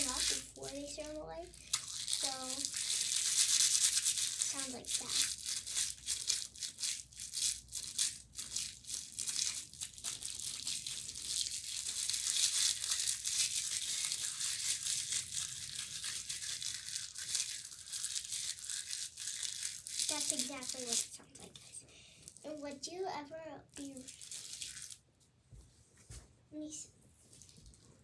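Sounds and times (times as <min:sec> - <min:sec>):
snack wrapper crinkling: 0:00.0 - 0:22.5, 0:23.8 - 0:25.0, 0:27.2 - 0:28.0.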